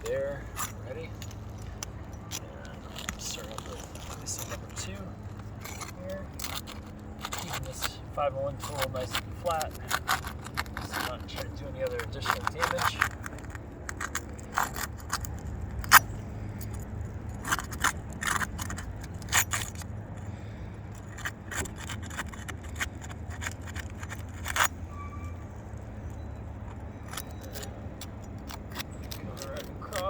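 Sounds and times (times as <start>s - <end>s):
metal tool scraping roof shingles: 0.0s - 25.2s, 26.6s - 30.0s.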